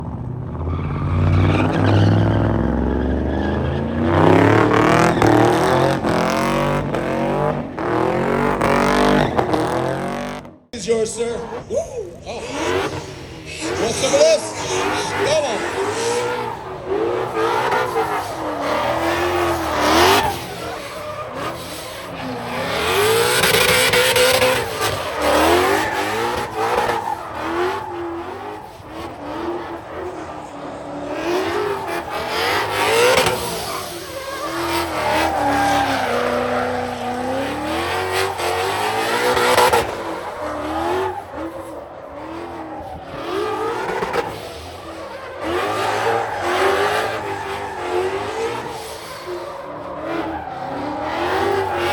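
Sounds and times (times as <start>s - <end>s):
tire squeal: 0.0s - 10.4s, 12.5s - 51.9s
car engines revving: 0.0s - 51.9s.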